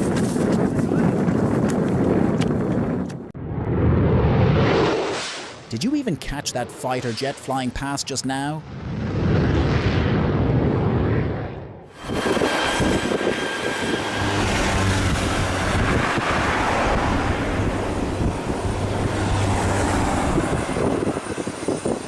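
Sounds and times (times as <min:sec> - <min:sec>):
jet engine roar: 0:03.4 - 0:22.0.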